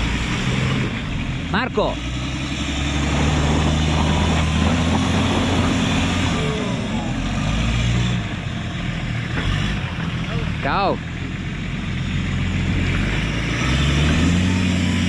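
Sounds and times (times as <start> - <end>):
off-road vehicle engine under load: 0.0 - 15.0.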